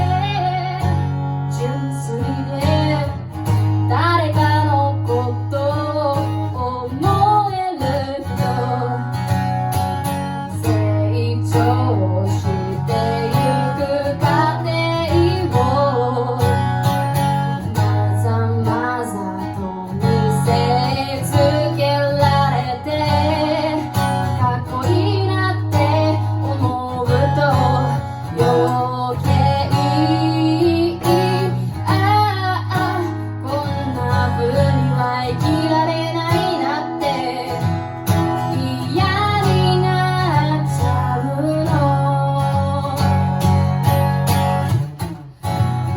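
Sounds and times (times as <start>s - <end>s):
woman singing a slow song: 0.0s - 43.7s
strummed acoustic guitar: 0.0s - 45.9s.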